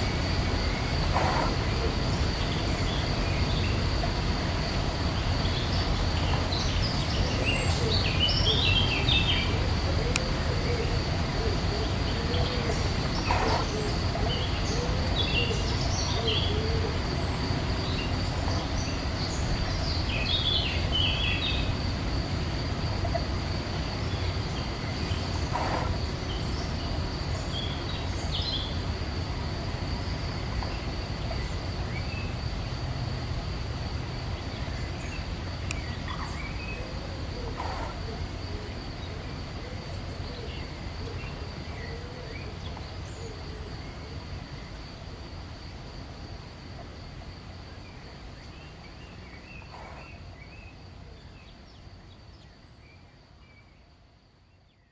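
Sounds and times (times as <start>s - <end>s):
high-pitched insect trill: 0.0s - 50.8s
songbirds chirping: 0.0s - 54.9s.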